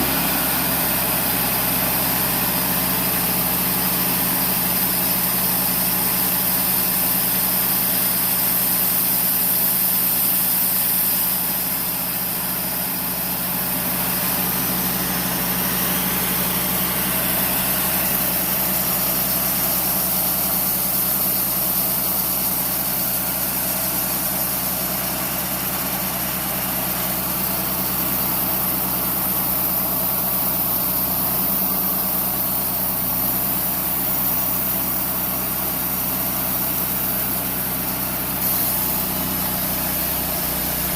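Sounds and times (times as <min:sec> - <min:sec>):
band sawmill engine running: 0:00.0 - 0:40.9.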